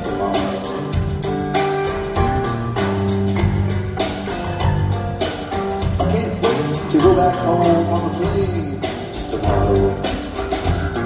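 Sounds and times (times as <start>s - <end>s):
drum kit beat: 0.0s - 11.0s
rock band playing live: 0.0s - 11.0s.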